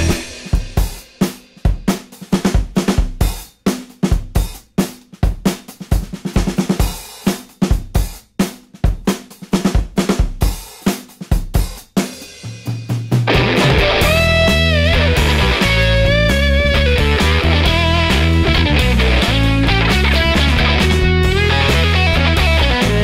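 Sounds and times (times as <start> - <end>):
drum kit beat: 0.0 - 23.0.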